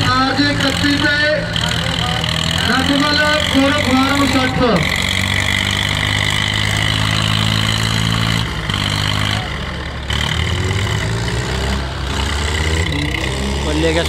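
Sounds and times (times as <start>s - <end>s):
diesel tractor engines under load: 0.0s - 14.0s.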